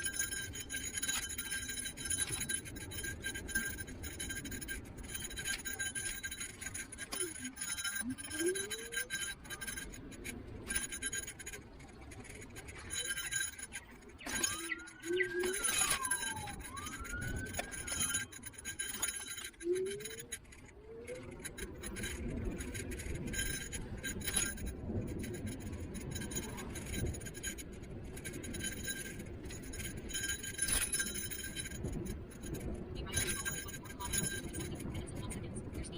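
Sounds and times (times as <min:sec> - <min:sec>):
wind and road rumble: 0:00.0 - 0:35.9.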